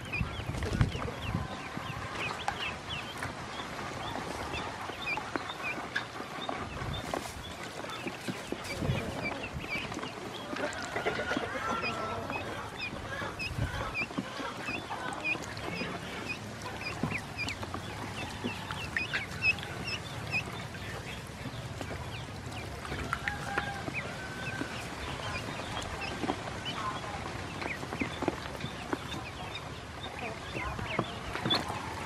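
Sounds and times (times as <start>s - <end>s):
ducklings peeping: 0.0s - 32.0s.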